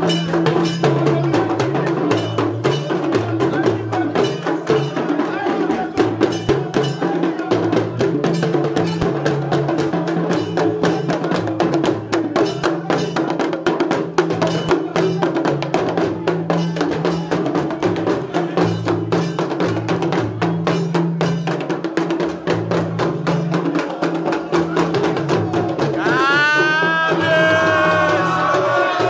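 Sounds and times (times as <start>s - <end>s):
drum and bell strokes: 0.0s - 29.0s.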